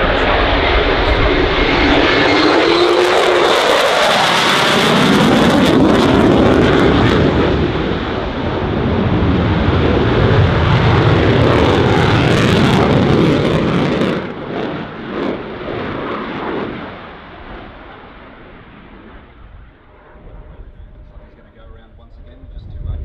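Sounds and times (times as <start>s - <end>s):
jet fighter flying past: 0.0s - 23.0s.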